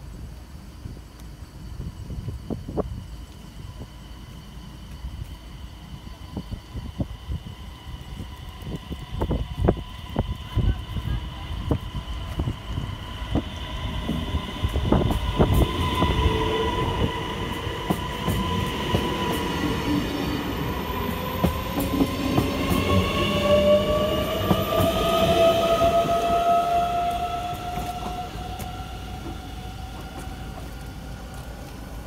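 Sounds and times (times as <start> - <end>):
train wheel rumble: 0.0 - 32.0.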